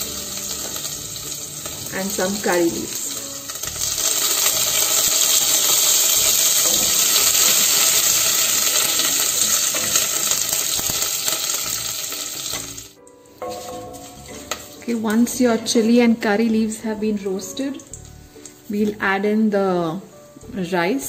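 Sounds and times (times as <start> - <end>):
leaves sizzling in hot oil: 0.0 - 21.0.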